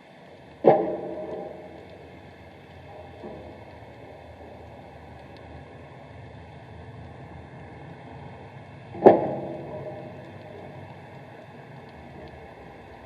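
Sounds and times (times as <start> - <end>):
muffled underwater noise: 0.0 - 13.0.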